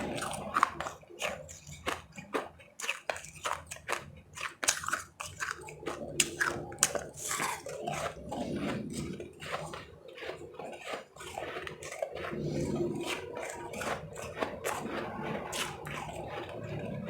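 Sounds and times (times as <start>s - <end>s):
crunching and chewing ice: 0.0s - 17.0s.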